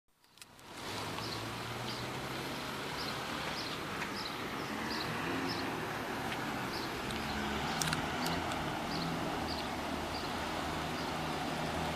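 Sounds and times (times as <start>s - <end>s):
steady rain: 0.5s - 11.9s.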